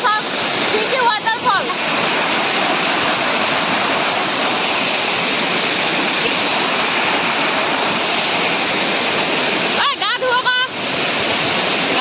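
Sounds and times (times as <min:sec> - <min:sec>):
waterfall crashing: 0:00.0 - 0:12.0.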